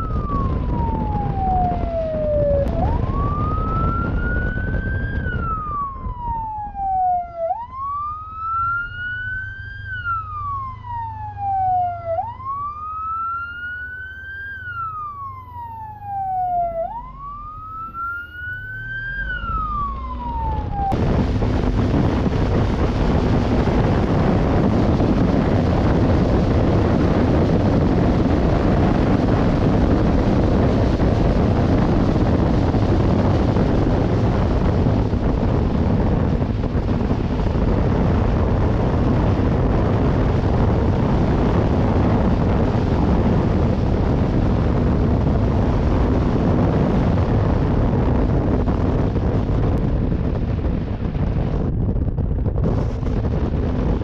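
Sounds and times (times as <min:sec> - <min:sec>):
police siren wailing: 0:00.0 - 0:49.8
motorcycle engine rumble: 0:00.0 - 0:54.0
wind rushing: 0:00.0 - 0:54.0.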